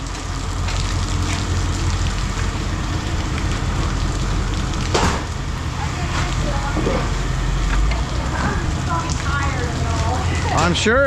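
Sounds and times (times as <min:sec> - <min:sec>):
engine idling rumble: 0:00.0 - 0:11.0.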